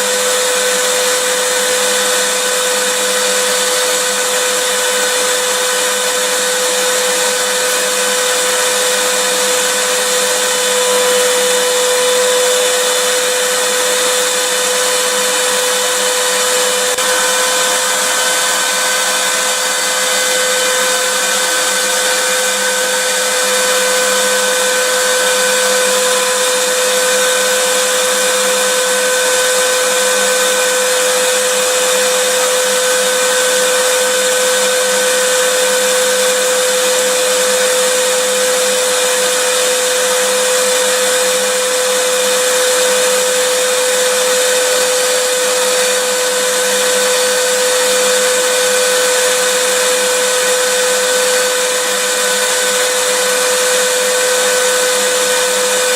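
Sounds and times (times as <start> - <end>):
vacuum cleaner motor running: 0.0 - 55.9.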